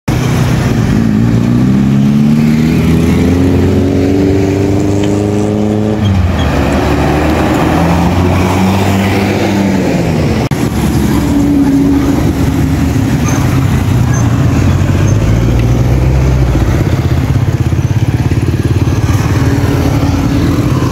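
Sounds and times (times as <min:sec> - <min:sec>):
vehicle engine accelerating: 0:00.1 - 0:20.9.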